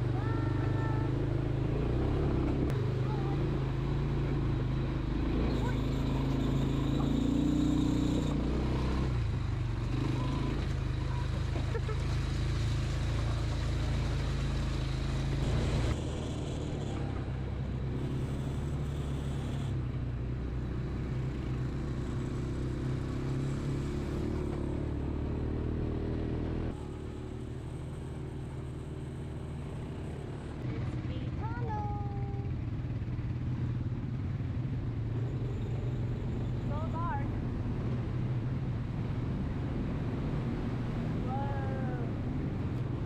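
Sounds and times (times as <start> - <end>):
quad bike engine running: 0.0 - 43.0.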